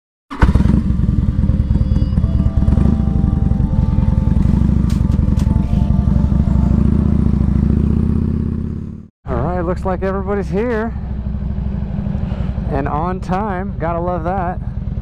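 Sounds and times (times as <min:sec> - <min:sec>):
motorcycle engine running: 0:00.3 - 0:15.0.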